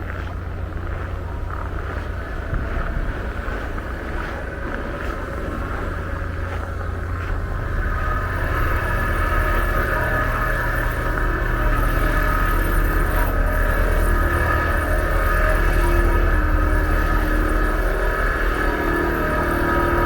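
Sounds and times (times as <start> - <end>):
steady whine: 0.0 - 20.0
vehicle engine rumble: 0.0 - 20.0.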